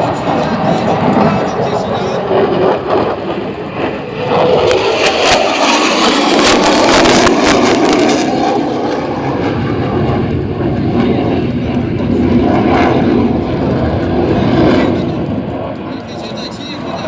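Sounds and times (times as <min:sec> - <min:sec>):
engine crackle: 0:00.0 - 0:17.0
fighter jet roar: 0:00.0 - 0:17.0.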